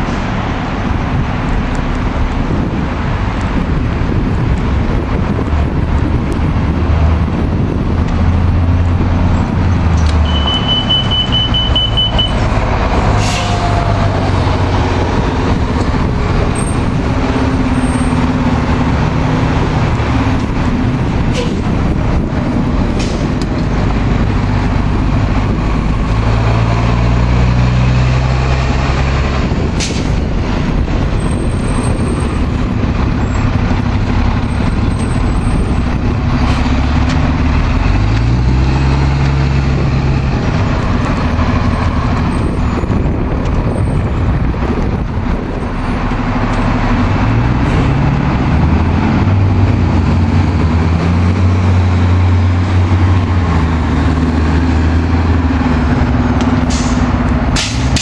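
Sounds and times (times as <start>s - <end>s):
bus engines droning: 0.0s - 58.0s.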